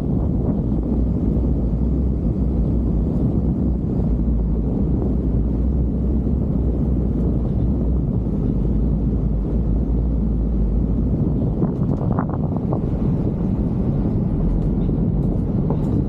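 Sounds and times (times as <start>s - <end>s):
car rumbling on dirt road: 0.0s - 16.0s
wind buffeting microphone: 0.0s - 16.0s.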